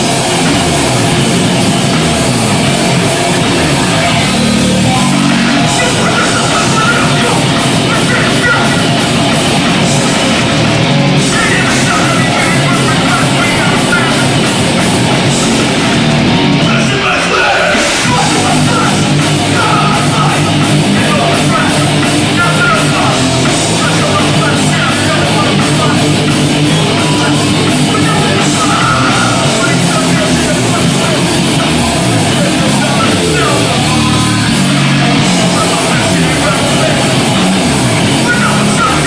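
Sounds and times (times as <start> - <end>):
punk band playing live: 0.0 - 39.0.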